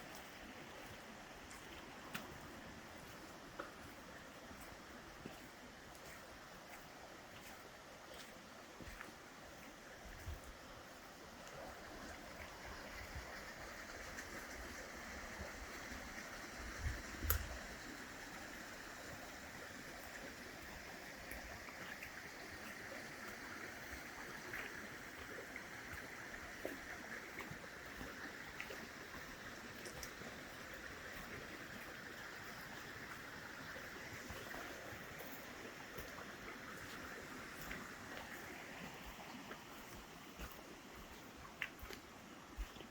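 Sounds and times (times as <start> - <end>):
creek water over rocks: 0.0 - 42.9.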